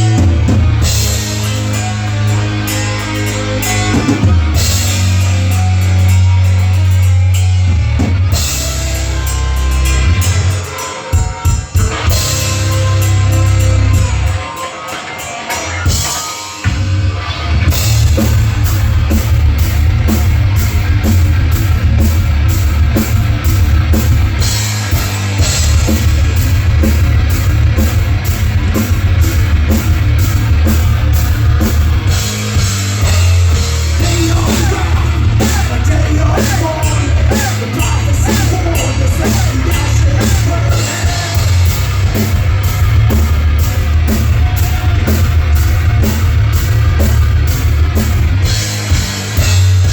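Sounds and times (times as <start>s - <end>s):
live heavy metal band: 0.0s - 49.9s.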